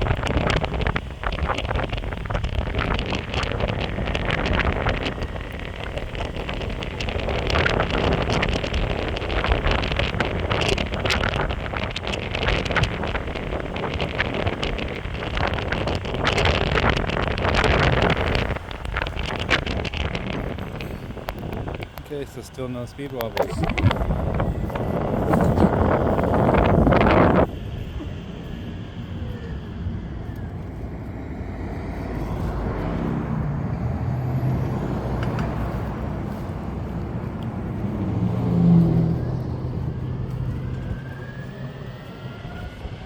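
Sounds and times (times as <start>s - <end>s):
small clicks from road surface: 0.0s - 28.6s, 34.4s - 43.0s
skateboard wheels rolling on pavement: 0.0s - 43.0s
wind buffeting microphone: 0.0s - 43.0s.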